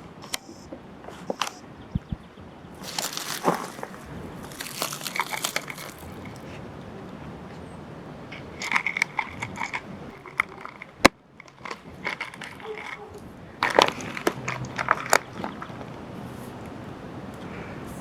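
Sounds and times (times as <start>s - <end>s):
crinkling handling noises: 2.7s - 18.0s.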